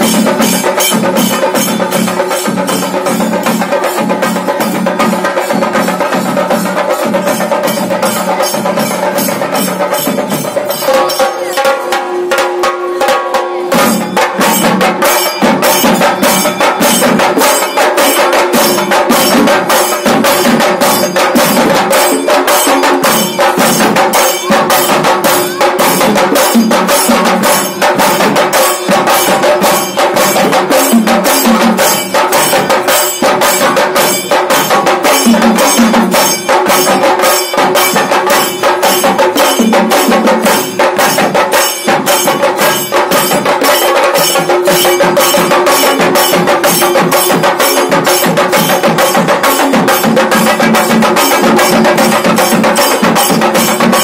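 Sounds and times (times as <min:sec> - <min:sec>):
stick-beaten drums: 0:00.0 - 0:54.0.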